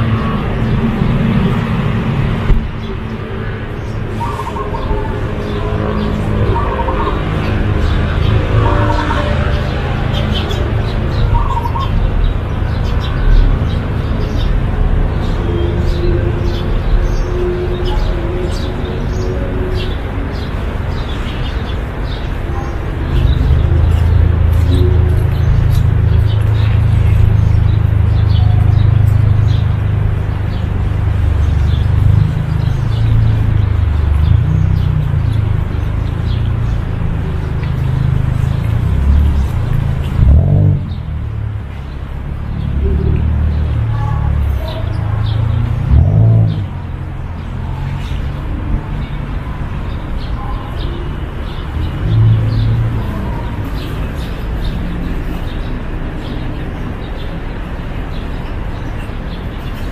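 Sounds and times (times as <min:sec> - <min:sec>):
low uneven city rumble: 0:00.0 - 0:59.9
small birds chirping: 0:02.6 - 0:59.9.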